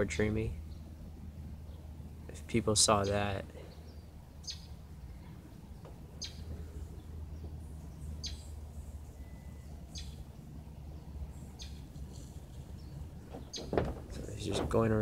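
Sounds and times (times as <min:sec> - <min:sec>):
bird chirping: 0:00.0 - 0:15.0
steady low hum: 0:00.0 - 0:15.0.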